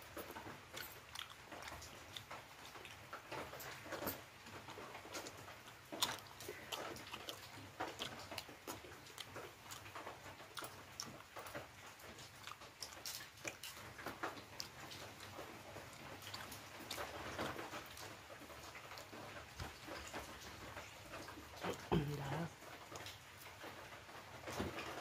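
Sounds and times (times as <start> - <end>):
person chewing and smacking: 0.0 - 25.0.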